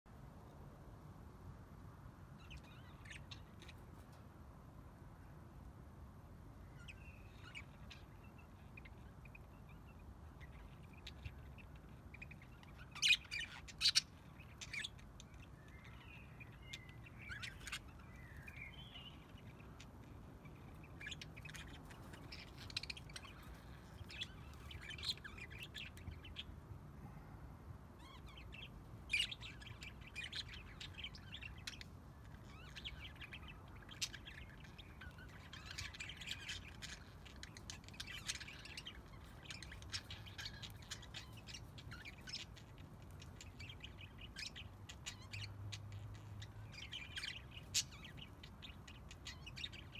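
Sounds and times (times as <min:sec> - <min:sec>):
budgerigars chirping and chattering: 0:02.4 - 0:04.2, 0:06.7 - 0:26.6, 0:28.0 - 0:49.9.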